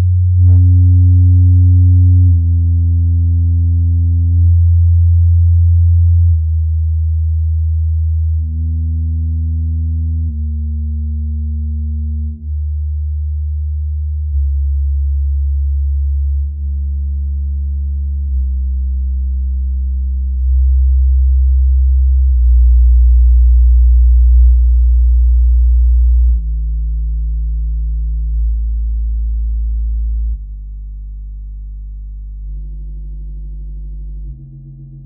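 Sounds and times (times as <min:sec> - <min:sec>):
bass test tones: 0:00.0 - 0:35.0.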